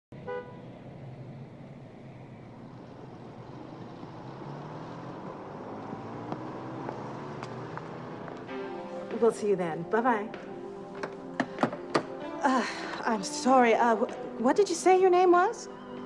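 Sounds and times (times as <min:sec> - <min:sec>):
passing cars: 0:00.1 - 0:14.6.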